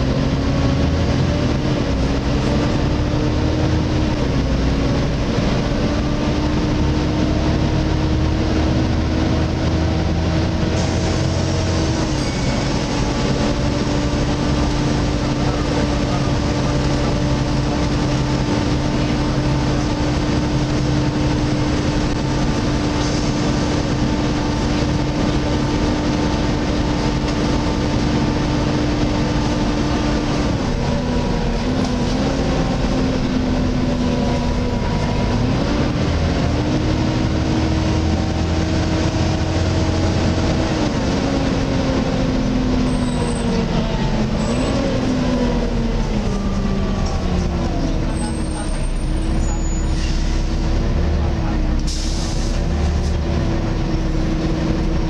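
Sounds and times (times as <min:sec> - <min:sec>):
bus cooling fan whining: 0:00.0 - 0:49.8
bus engine and road rumble: 0:00.0 - 0:55.0.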